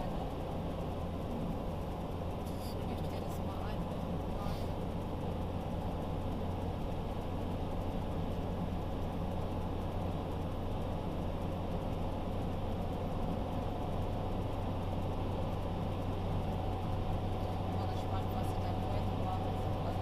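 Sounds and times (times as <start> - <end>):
car engine hum: 0.0 - 20.0
road and tyre noise: 0.0 - 20.0.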